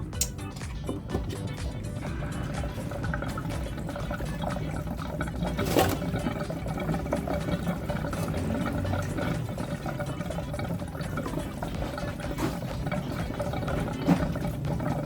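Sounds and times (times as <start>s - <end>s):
water heating in a pot: 0.0s - 15.0s.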